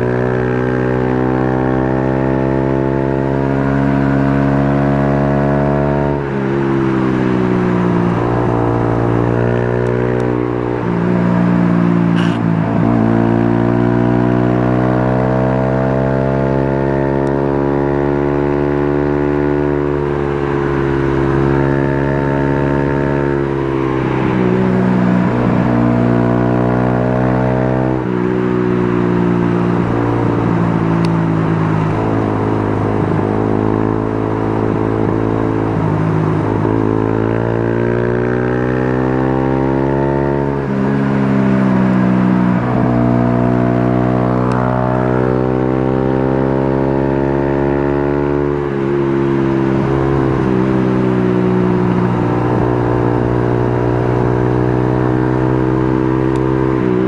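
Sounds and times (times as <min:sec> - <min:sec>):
vehicle engine revving: 0:08.1 - 0:57.0.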